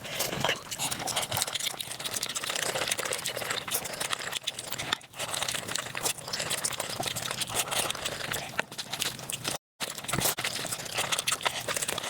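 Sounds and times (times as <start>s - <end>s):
sped-up crunching and chewing: 0.0s - 12.0s.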